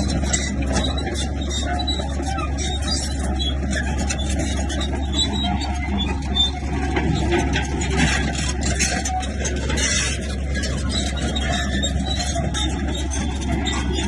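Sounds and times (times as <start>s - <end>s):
heavy diesel engine running: 0.0s - 14.0s
scraping and clatter: 0.0s - 14.0s.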